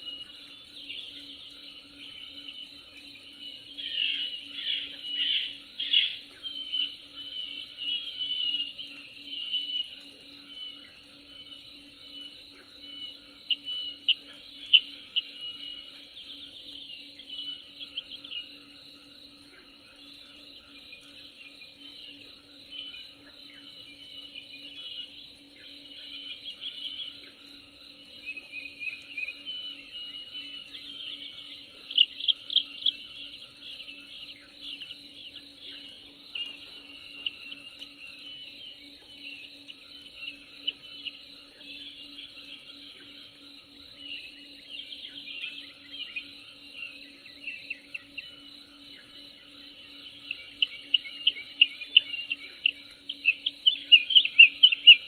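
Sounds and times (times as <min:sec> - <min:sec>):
birds chirping and twittering: 0:00.0 - 0:55.0
insect-like drone: 0:00.0 - 0:55.0
low steady hum: 0:00.0 - 0:55.0.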